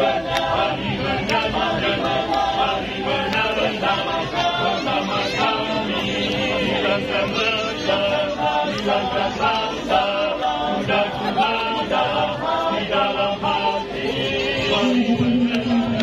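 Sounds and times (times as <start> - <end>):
men singing in harmony: 0.0 - 16.0.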